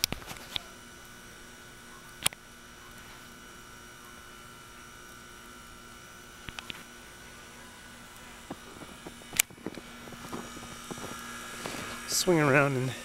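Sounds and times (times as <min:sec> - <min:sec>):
faint steady tones: 0:00.0 - 0:13.0
light hiss: 0:00.0 - 0:13.0
low electrical hum: 0:00.0 - 0:13.0.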